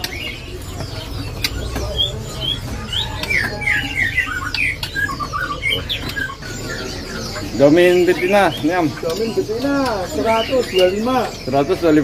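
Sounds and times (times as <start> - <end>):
caged birds chirping and squawking: 0.0 - 12.0.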